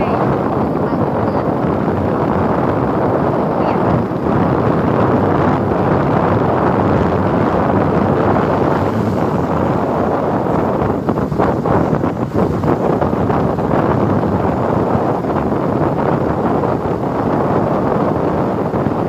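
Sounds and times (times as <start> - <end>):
road and engine noise: 0.0 - 19.0
wind rushing over microphone: 0.0 - 19.0.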